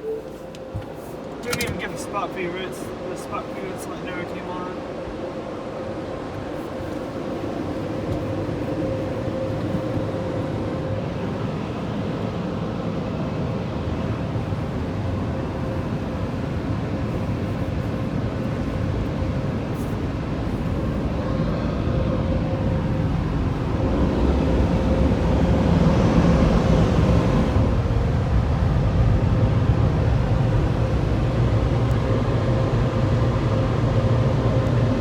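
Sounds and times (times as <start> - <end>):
car wash machinery running: 0.0 - 35.0.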